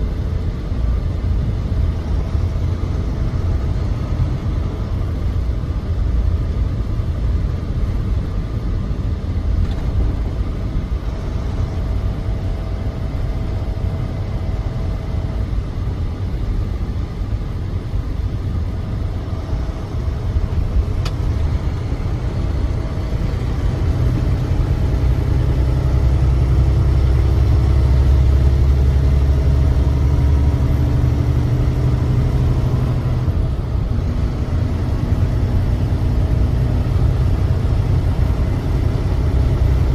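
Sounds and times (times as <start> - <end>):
road noise: 0.0 - 39.9
truck engine rumbling: 0.0 - 39.9.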